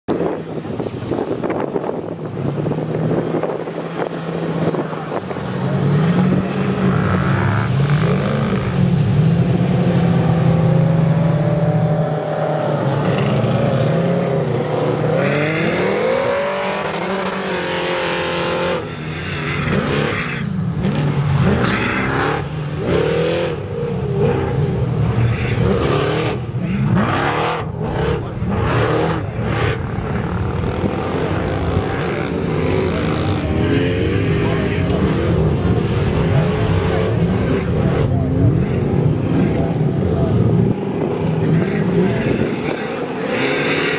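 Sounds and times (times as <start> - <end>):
race truck engines revving: 0.1 - 43.9.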